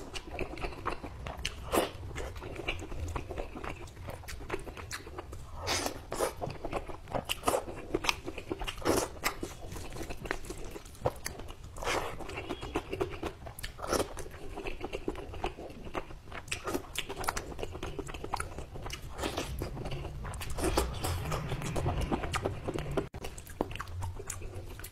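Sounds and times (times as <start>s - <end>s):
man chewing food: 0.0s - 24.9s.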